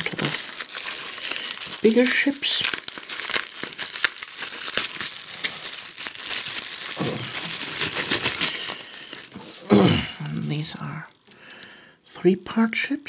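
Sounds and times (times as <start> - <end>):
bubble wrap crackling: 0.0 - 11.4.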